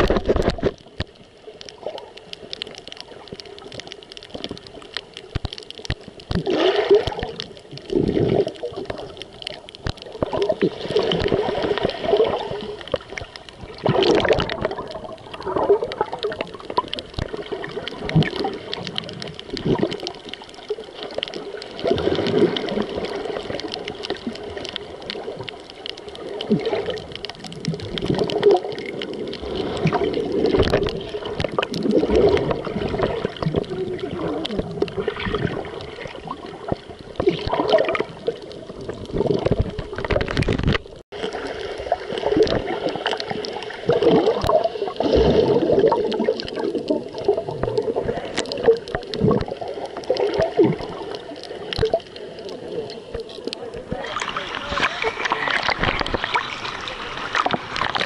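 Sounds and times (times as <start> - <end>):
muffled underwater gurgling: 0.0 - 58.0.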